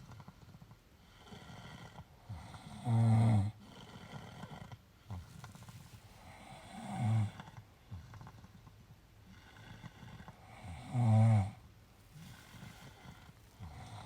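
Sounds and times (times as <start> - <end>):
quiet breathing: 0.0 - 14.0.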